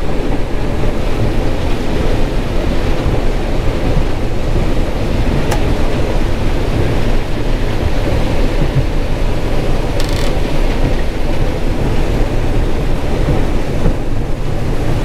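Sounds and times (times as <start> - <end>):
combine harvester rumbling: 0.0 - 15.0.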